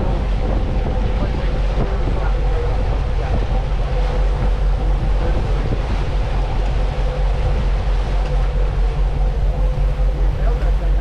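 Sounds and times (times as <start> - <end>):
boat engines droning: 0.0 - 11.0
water rushing in wake: 0.0 - 11.0.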